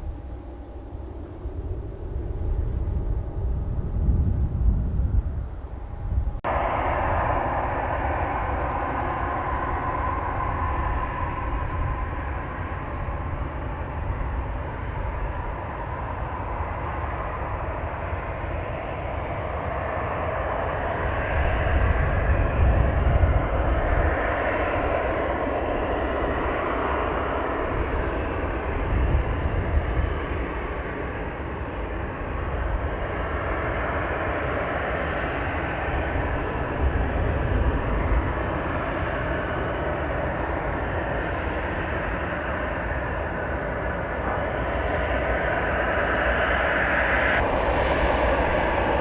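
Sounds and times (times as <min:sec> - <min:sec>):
jet engines running: 0:00.0 - 0:49.0
wind rumble on microphone: 0:00.0 - 0:49.0.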